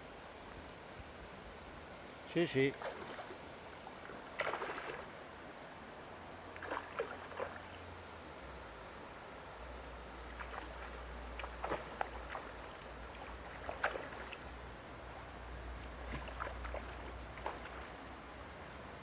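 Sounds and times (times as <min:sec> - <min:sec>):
river water splashing and gurgling: 0:02.0 - 0:18.6.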